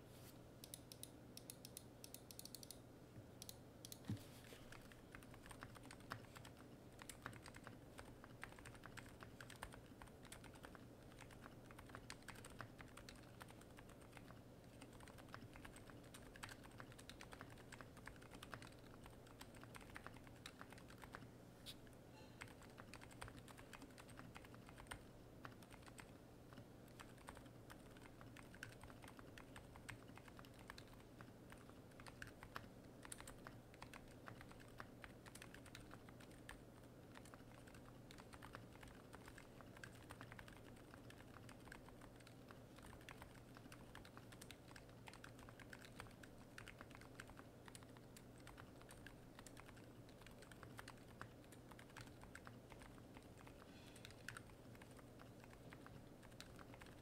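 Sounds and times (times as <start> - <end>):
soft keyboard typing: 0.6 - 57.0.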